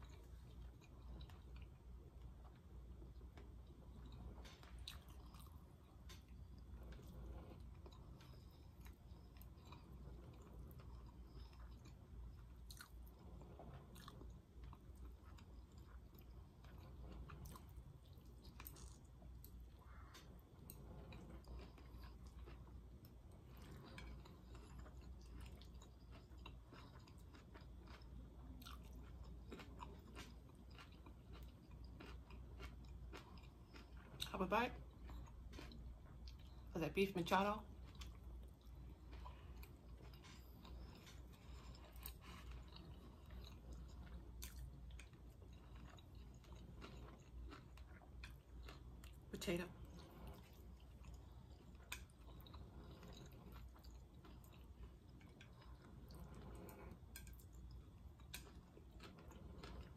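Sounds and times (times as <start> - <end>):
person chewing food: 0.0 - 36.7, 37.7 - 59.9.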